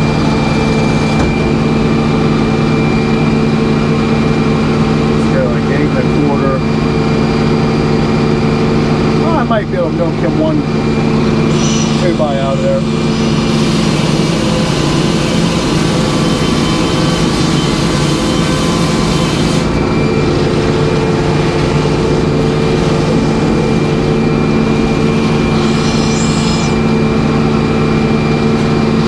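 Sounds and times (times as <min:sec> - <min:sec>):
sawmill running: 0:00.0 - 0:29.0.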